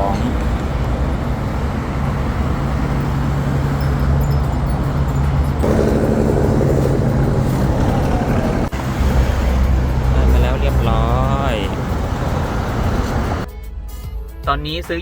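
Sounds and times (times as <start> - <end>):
vehicle engine humming: 0.0 - 13.5.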